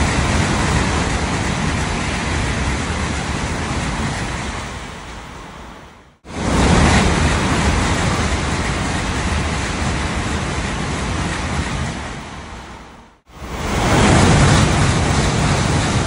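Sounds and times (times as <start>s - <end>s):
high-speed train roaring past: 0.0s - 16.0s.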